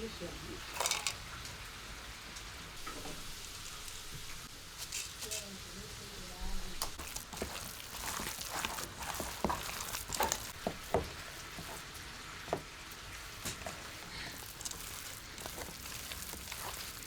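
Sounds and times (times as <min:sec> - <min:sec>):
food sizzling in oil: 0:00.0 - 0:17.0
oil crackling and popping: 0:00.6 - 0:17.0.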